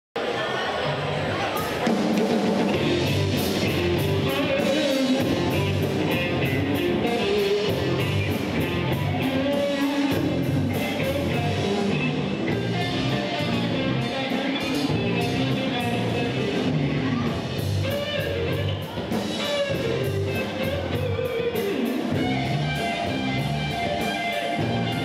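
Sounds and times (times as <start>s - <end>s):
bass guitar: 0.8s - 25.0s
electric guitar: 0.8s - 25.0s
drum kit: 1.5s - 25.0s.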